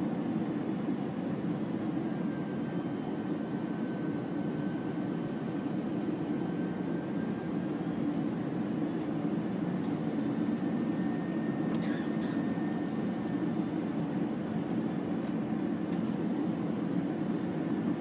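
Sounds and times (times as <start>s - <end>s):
airliner cabin noise: 0.0s - 18.0s.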